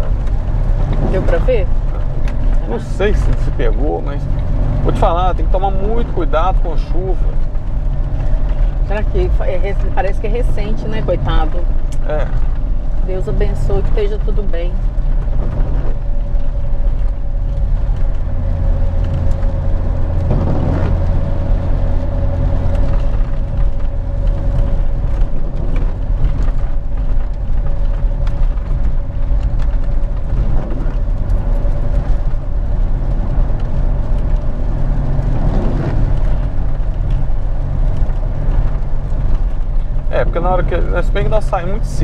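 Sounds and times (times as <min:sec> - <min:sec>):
car engine and tyre hum: 0:00.0 - 0:42.0.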